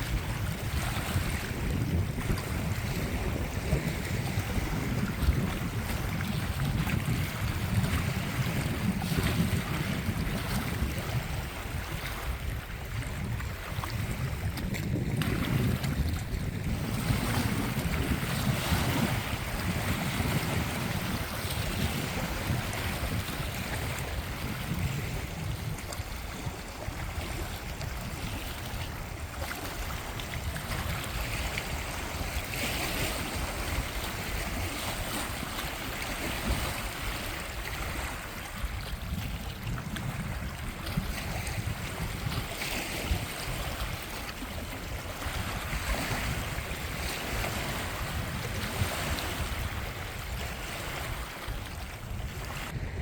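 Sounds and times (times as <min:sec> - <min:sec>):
water noise: 0:00.0 - 0:53.0
wind buffeting microphone: 0:00.0 - 0:53.0.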